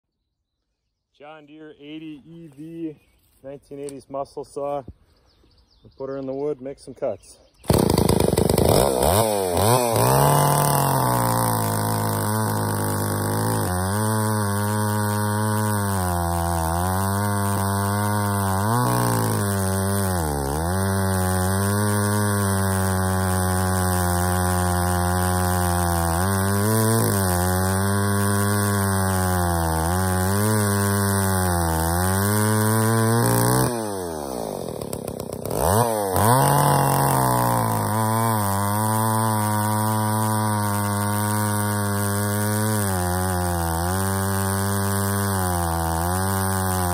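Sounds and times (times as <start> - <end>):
chainsaw cutting log: 7.6 - 46.9.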